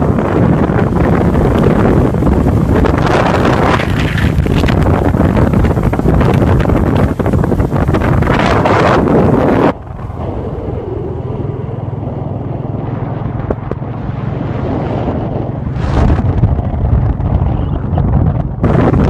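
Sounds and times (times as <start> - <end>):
motorcycle engine humming: 0.0 - 19.0
wind buffeting microphone: 0.0 - 19.0.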